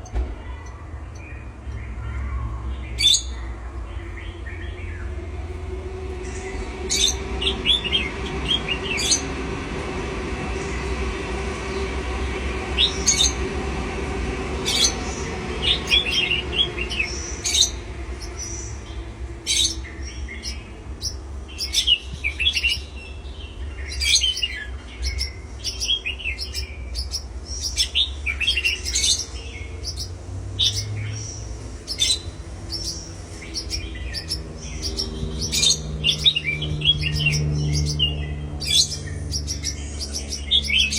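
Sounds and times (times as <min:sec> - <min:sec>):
pet birds chirping: 0:00.0 - 0:40.9
steady low hum: 0:00.0 - 0:40.9.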